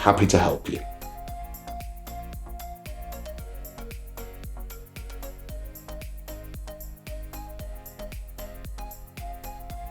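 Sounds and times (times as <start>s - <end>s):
background music with steady beat: 0.0s - 9.9s
held bass: 0.0s - 9.9s.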